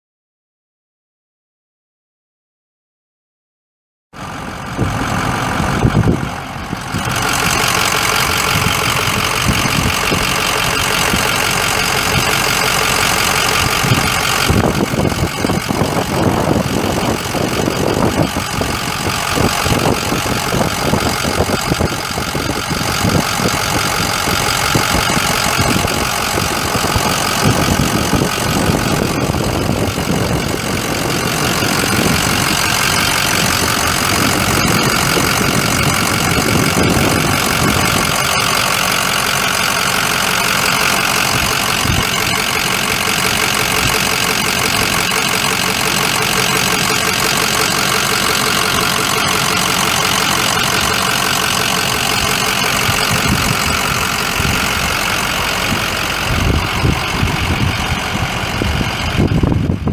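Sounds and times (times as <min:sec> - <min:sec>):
diesel engine idling: 0:04.2 - 0:59.9.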